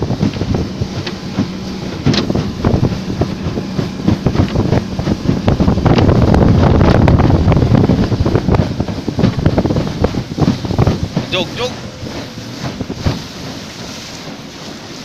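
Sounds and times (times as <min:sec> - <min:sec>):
outboard motorboat running: 0:00.0 - 0:15.0
water rushing from hull: 0:00.0 - 0:15.0
wind buffeting microphone: 0:00.0 - 0:15.0.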